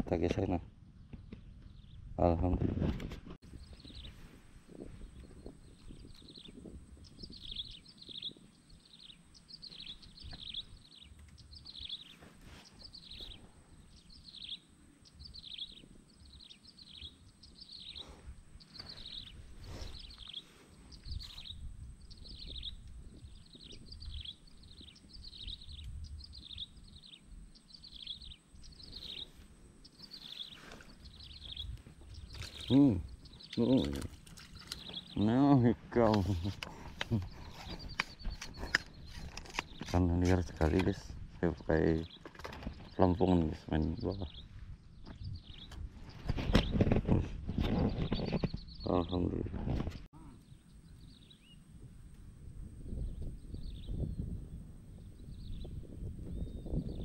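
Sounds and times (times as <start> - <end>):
bird chirping: 0.1 - 2.4, 3.4 - 51.8, 52.8 - 57.0.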